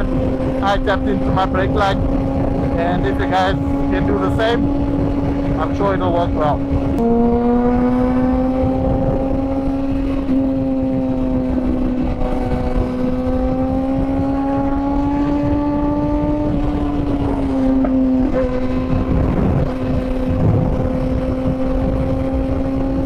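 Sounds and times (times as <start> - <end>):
motorcycle engine at high revs: 0.0 - 23.0
wind and road noise: 0.0 - 23.0.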